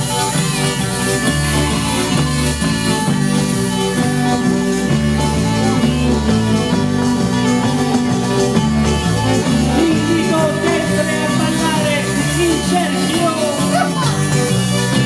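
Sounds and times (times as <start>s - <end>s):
bagpipe: 0.0s - 15.0s
button accordion: 0.0s - 15.0s
pulsing bass: 0.0s - 15.0s.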